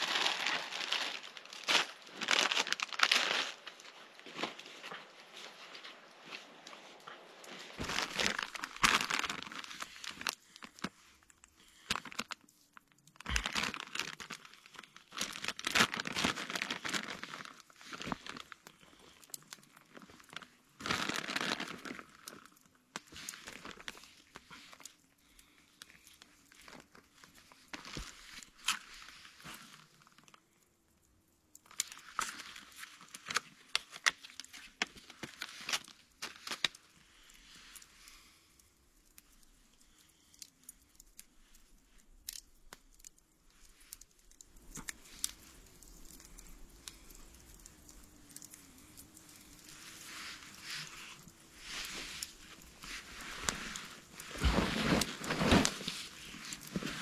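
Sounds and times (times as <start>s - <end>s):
crinkling and rustling: 0.0s - 57.0s.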